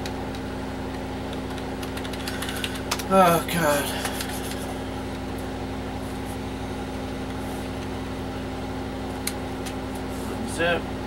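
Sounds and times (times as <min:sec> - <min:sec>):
desktop computer humming: 0:00.0 - 0:11.0.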